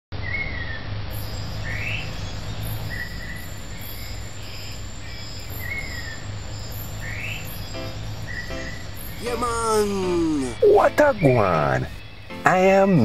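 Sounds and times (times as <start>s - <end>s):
short chirping calls: 1.1s - 12.4s
high insect chirring: 1.1s - 12.6s.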